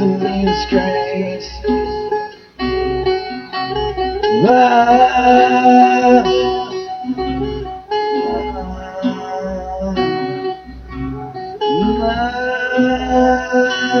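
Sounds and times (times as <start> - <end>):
band playing instrumental: 0.0 - 14.0
guitar chords: 0.0 - 14.0
low beat: 0.0 - 14.0.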